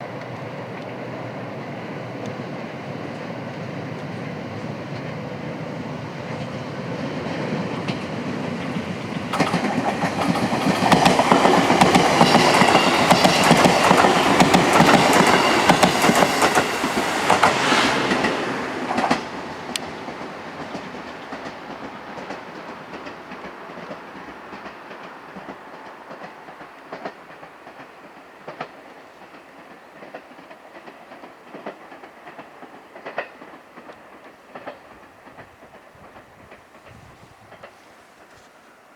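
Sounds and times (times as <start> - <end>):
electric train passing: 0.0 - 38.9
train wheels clickety-clack: 0.0 - 38.9.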